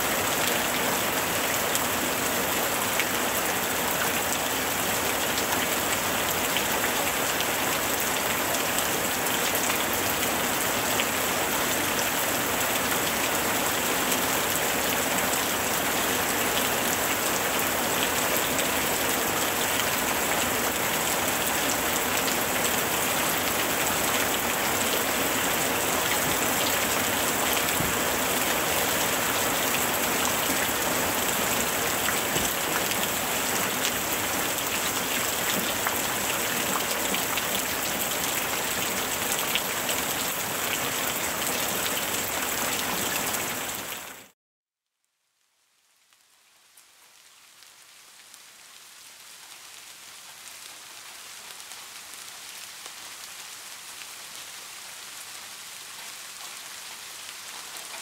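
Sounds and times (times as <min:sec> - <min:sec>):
steady rain: 0:00.0 - 0:44.4, 0:45.3 - 0:58.0.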